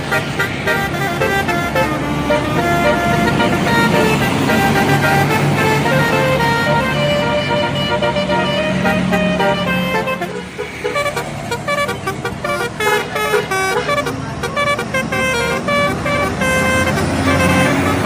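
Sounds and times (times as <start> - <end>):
bus engine running: 0.0 - 18.0
bus horn playing a tune: 0.0 - 18.0.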